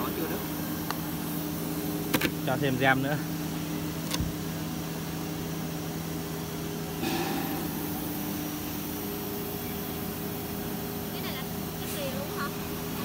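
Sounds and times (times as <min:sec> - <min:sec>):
machine humming with held tones: 0:00.0 - 0:13.0.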